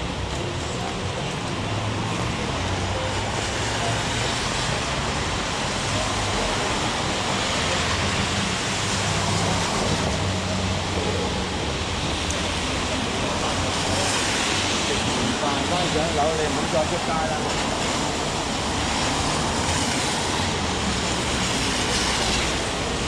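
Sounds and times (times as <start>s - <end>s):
street traffic engine hum: 0.0s - 23.0s
heavy rain hissing: 1.4s - 23.0s.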